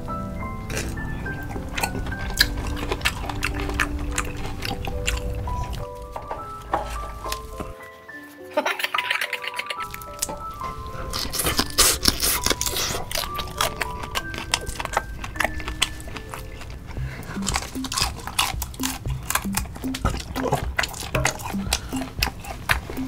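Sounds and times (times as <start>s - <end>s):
light background music: 0.0s - 23.0s
chewing and lip smacks: 0.7s - 7.8s, 8.8s - 23.0s.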